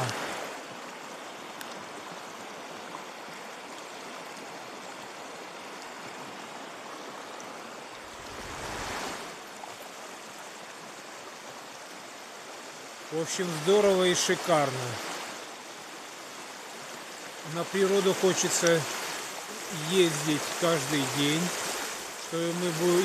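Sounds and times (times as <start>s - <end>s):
river rushing over stones: 0.0s - 23.0s.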